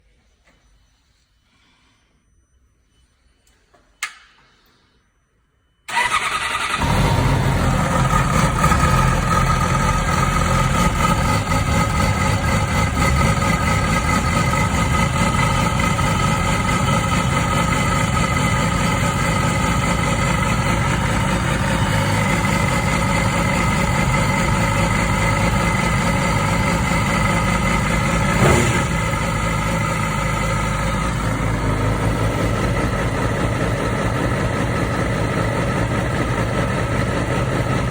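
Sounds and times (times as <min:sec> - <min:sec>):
motorcycle engine idling: 0:05.9 - 0:37.9.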